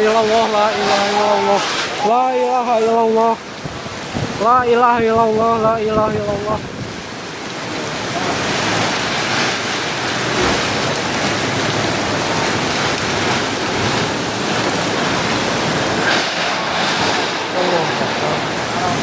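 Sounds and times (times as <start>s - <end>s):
heavy wind-driven rain: 0.0s - 19.0s.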